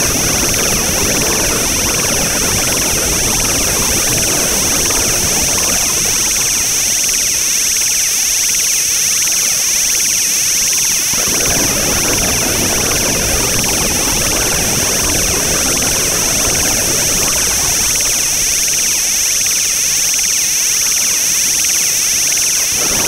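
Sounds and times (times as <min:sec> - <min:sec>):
loud steady noise drone: 0:00.0 - 0:23.0.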